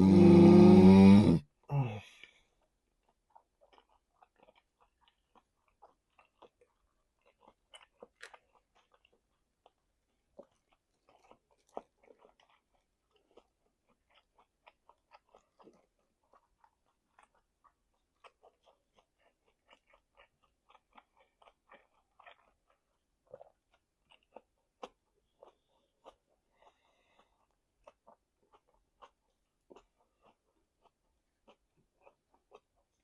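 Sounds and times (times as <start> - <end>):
person chewing meat: 2.0 - 33.0.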